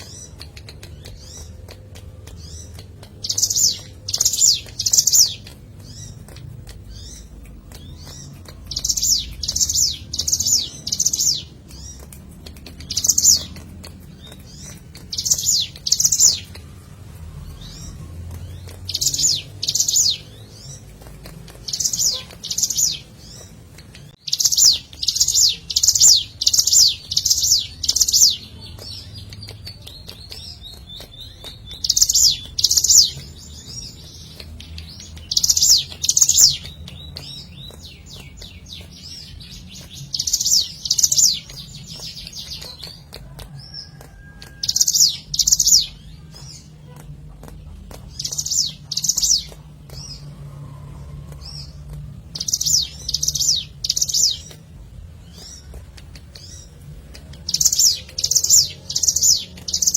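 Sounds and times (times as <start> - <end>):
quiet bird twittering: 0.0 - 59.9.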